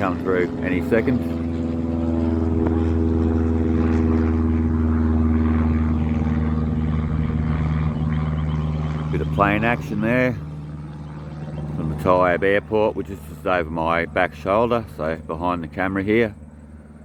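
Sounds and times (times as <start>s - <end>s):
light aircraft engine drone: 0.0s - 17.0s.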